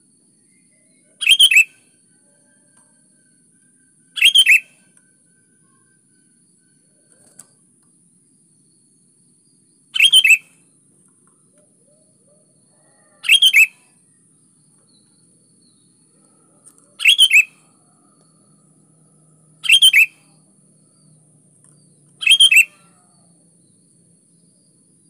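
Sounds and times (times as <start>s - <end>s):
bulbul singing: 0.4s - 7.5s, 9.4s - 25.0s.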